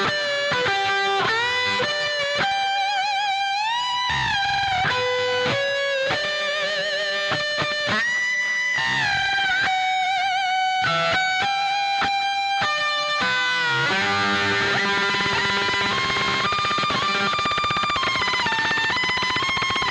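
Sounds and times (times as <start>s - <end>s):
lead guitar melody with bends: 0.0s - 19.9s.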